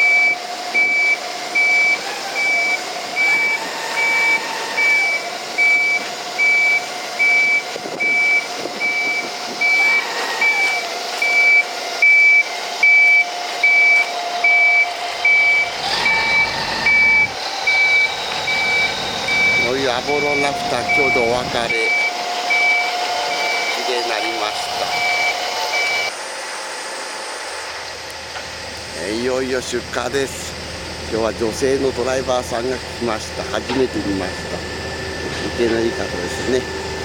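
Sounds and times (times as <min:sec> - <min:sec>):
reversing alarm beeping: 0:00.0 - 0:26.1, 0:31.2 - 0:37.0
engine hum: 0:00.0 - 0:37.0.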